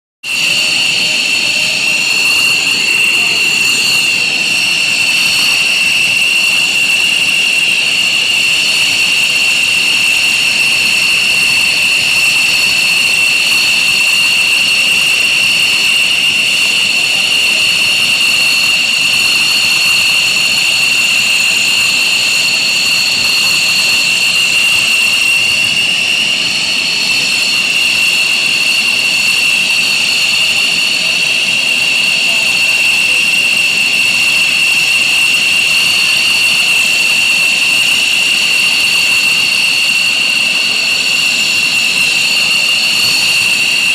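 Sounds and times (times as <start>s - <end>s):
jet engine high-pitched whine: 0.2s - 43.9s.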